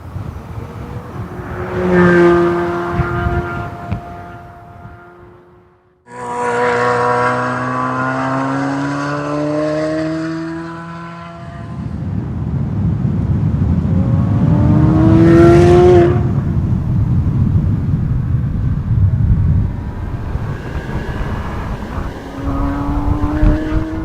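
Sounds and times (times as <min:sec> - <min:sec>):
sports car engine accelerating: 0:00.0 - 0:12.0, 0:13.8 - 0:24.0.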